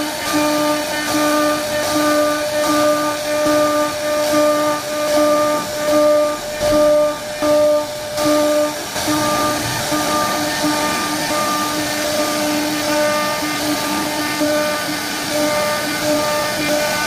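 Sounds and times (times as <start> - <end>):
cutting spindle hiss: 0.0 - 17.0
router motors whining in pulses: 0.0 - 17.0.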